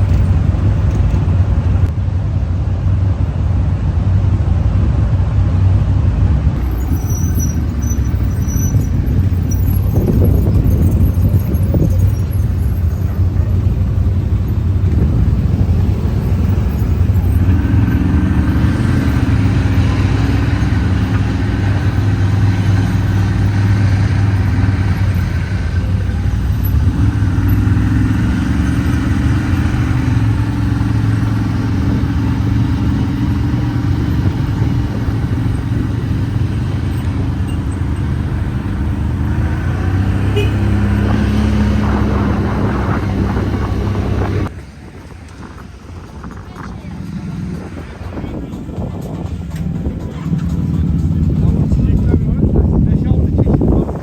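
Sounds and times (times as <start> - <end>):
off-road vehicle engine rumble: 0.0 - 54.0.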